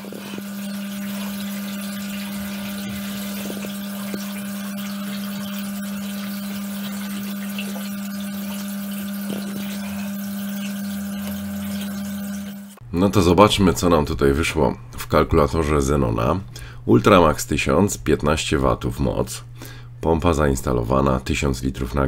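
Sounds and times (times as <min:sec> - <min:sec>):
filter pump humming: 0:00.0 - 0:22.0.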